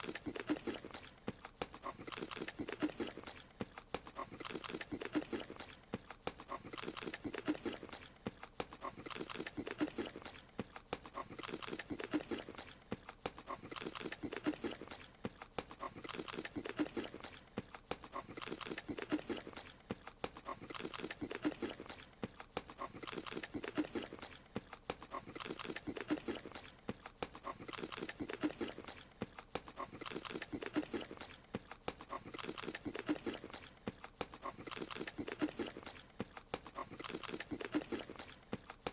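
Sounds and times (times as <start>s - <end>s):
crunchy munching and chewing: 0.0s - 38.9s.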